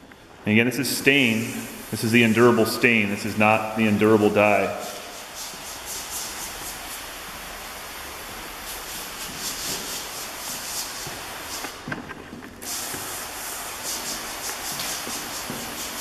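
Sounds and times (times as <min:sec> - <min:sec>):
sprayer hissing: 0:00.5 - 0:16.0.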